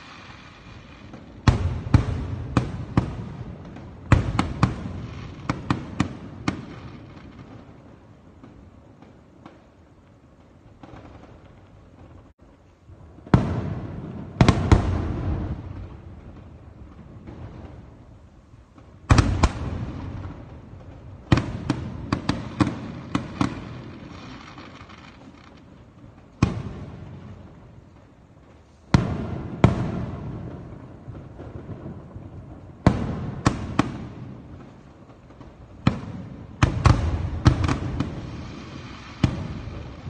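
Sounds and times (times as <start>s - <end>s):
firework bangs with low rumble: 0.0s - 40.0s.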